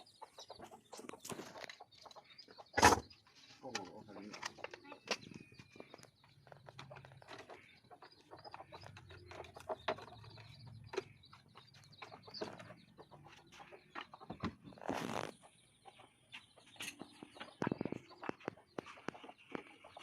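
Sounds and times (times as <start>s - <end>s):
bird calls: 0.0s - 20.0s.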